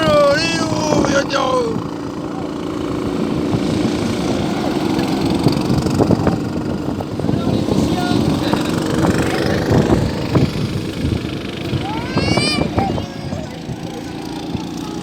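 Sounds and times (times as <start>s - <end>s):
go-kart engines driving past: 0.0s - 15.0s.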